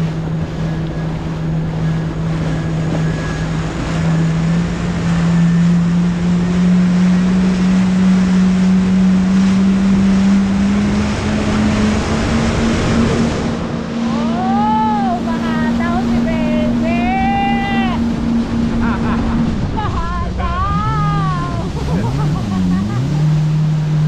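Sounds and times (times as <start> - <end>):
jet ski engine running: 0.0 - 24.0
rush of wind and water: 0.0 - 24.0.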